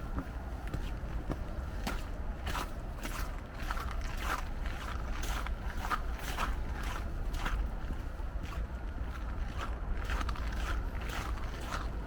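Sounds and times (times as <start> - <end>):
footsteps in wet slush and snow: 0.0 - 12.0
wind rumble on microphone: 0.0 - 12.0.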